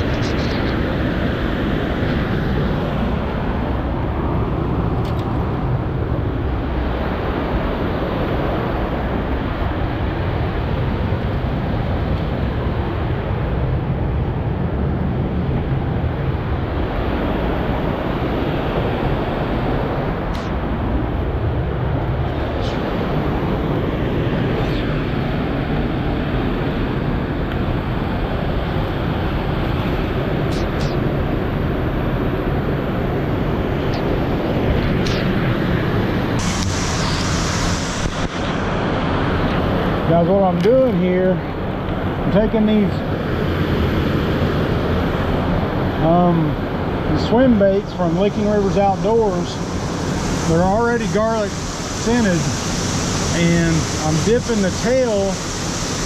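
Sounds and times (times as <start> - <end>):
river water rushing over dam: 0.0 - 56.0.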